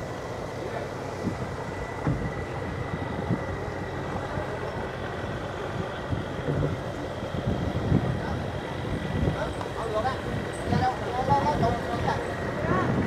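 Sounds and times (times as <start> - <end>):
distant voices: 0.0 - 13.0
engine drone: 0.0 - 13.0.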